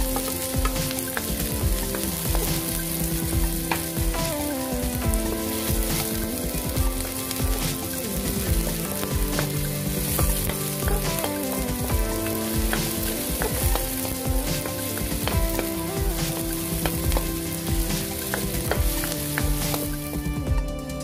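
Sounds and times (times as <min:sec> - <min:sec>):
wooden spatula scraping wok: 0:00.0 - 0:20.2
onion and garlic sizzling: 0:00.0 - 0:21.0.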